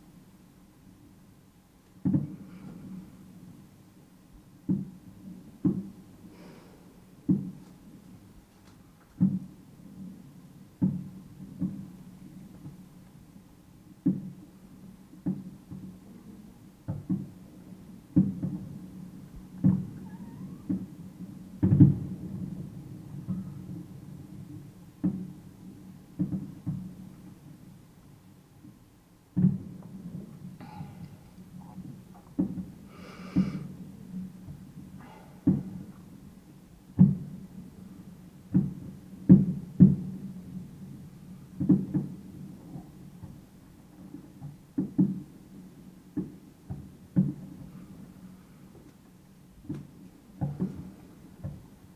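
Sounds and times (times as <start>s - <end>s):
fireworks bangs with low rumble: 2.0s - 3.8s, 4.5s - 6.4s, 9.2s - 30.8s, 31.4s - 51.9s.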